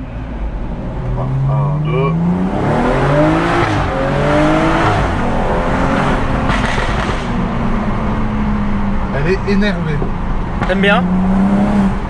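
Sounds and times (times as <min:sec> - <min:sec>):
car engine accelerating hard: 0:00.8 - 0:12.0.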